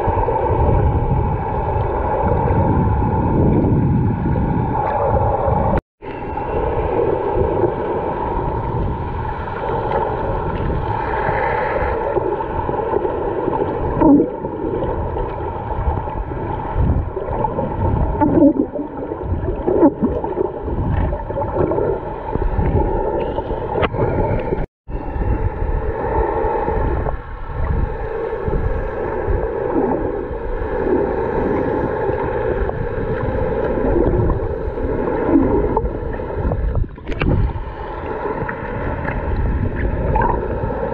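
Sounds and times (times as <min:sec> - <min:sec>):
water rushing underwater: 0:00.0 - 0:40.9.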